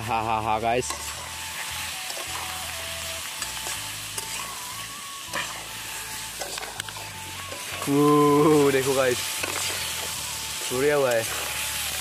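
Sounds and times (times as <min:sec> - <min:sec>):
larvae sizzling in hot oil: 0:00.0 - 0:12.0
metal spatula scraping a pan: 0:00.8 - 0:12.0.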